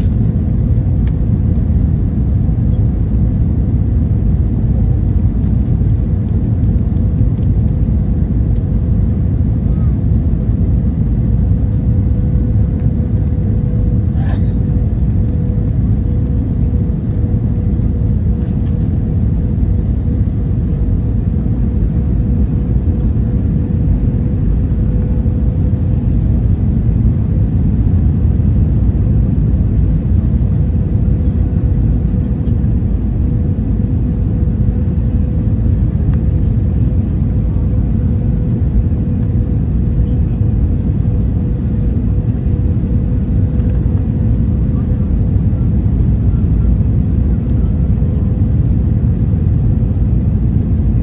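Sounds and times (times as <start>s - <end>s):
airliner cabin drone: 0.0s - 51.0s.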